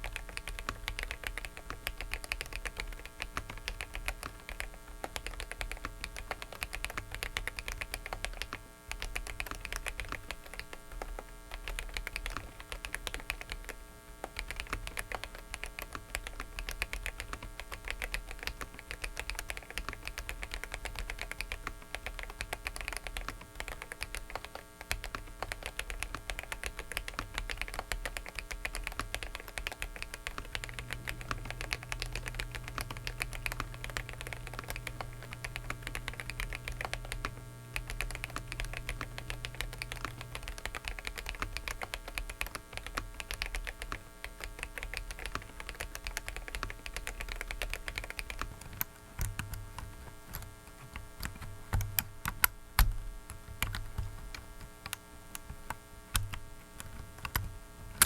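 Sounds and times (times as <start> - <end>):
electrical hum: 0.0 - 58.0
mechanical keyboard typing: 0.0 - 58.0.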